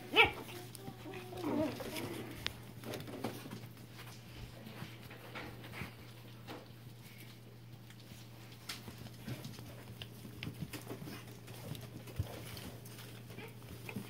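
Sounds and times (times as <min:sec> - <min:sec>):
paws tapping and scratching: 0:00.0 - 0:14.0.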